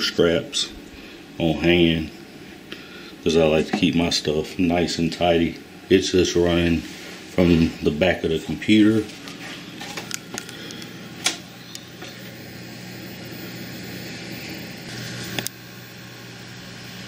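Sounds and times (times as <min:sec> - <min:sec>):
computer cooling fans humming: 0:00.0 - 0:17.0.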